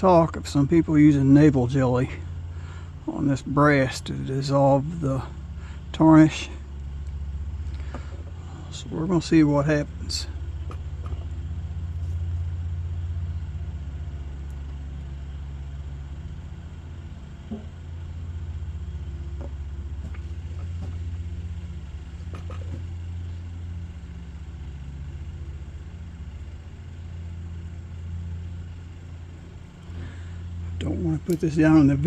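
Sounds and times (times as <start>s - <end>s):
low mechanical rumble: 0.0s - 32.0s.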